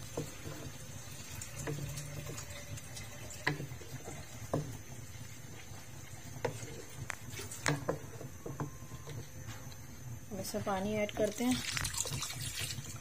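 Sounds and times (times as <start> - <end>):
wooden spatula stirring dal: 0.0 - 13.0.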